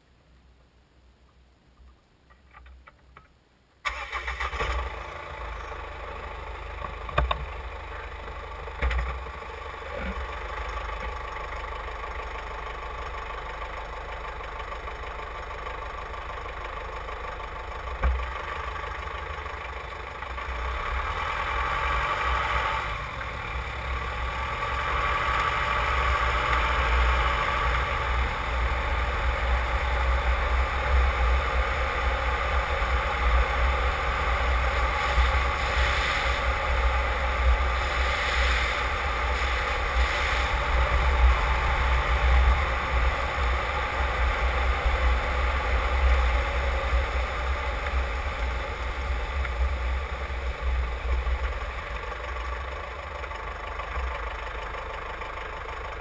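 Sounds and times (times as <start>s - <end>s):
diesel engine starting and running: 3.8s - 56.0s
drive shaft spinning: 6.7s - 56.0s.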